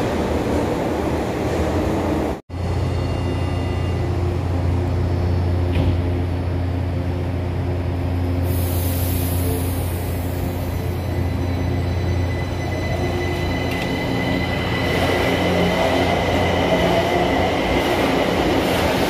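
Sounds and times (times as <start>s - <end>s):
train equipment low hum: 2.5s - 19.0s.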